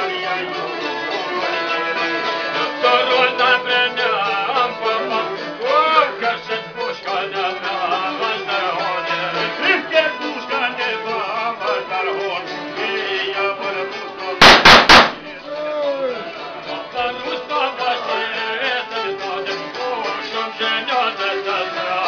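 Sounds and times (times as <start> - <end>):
steady musical accompaniment: 0.0 - 22.0.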